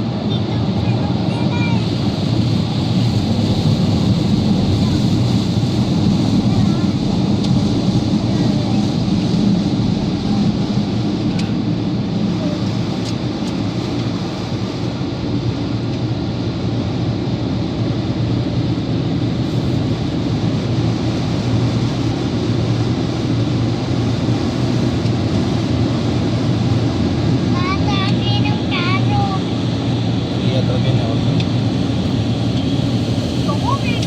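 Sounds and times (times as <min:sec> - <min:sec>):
car wash equipment rushing: 0:00.0 - 0:14.8, 0:17.7 - 0:34.0.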